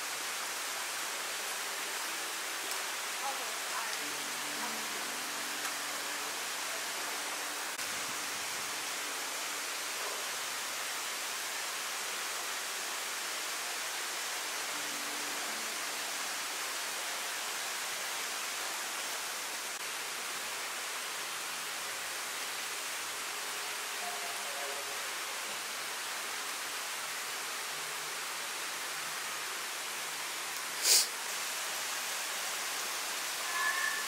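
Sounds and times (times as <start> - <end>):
waterfall splashing over rocks: 0.0 - 34.0.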